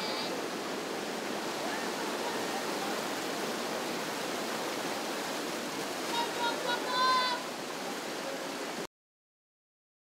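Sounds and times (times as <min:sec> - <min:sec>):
whitewater rapids rushing: 0:00.0 - 0:08.9.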